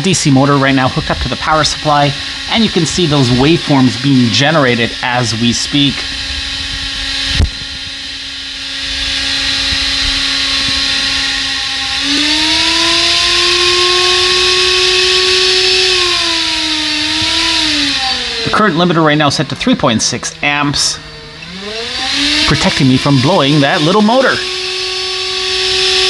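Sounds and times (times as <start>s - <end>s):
small electric motor whining: 0.0s - 26.0s.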